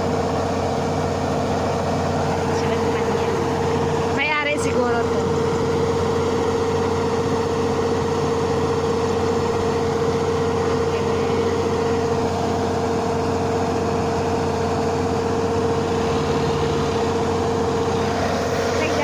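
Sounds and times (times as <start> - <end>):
harvester engine drone: 0.0 - 19.0.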